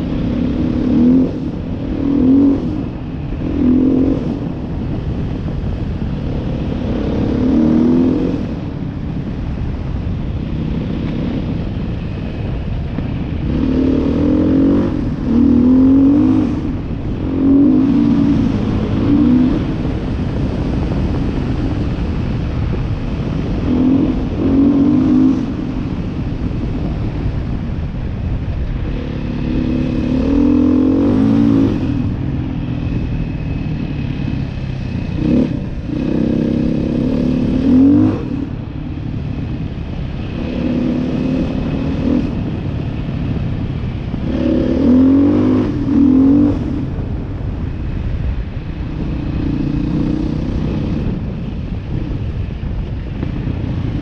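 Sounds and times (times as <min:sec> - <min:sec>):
motorcycle engine revving: 0:00.0 - 0:54.0
steady background rush: 0:00.0 - 0:54.0.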